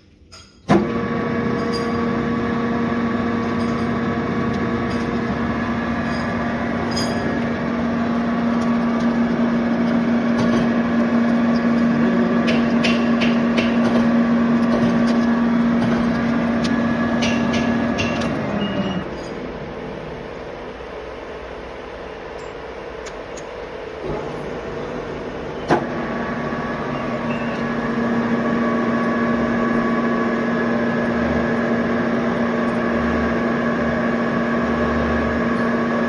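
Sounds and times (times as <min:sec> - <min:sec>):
lathe running: 0:00.7 - 0:36.0.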